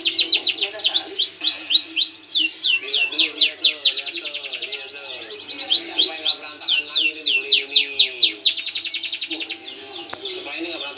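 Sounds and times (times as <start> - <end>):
songbird singing trills: 0.0 - 10.9.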